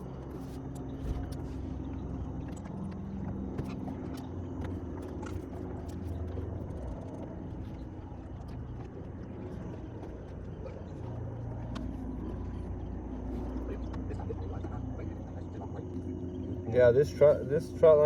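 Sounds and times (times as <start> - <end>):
small boat motor running: 0.0 - 18.0.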